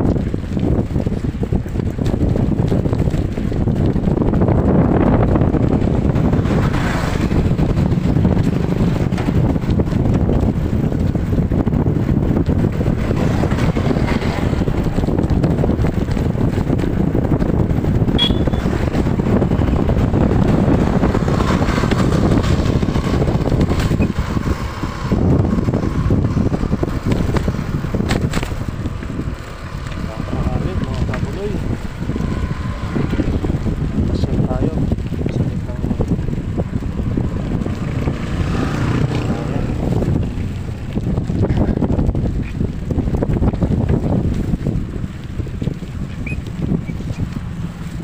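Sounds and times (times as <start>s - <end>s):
bike running noise: 0.0s - 48.0s
wind buffeting microphone: 0.0s - 48.0s.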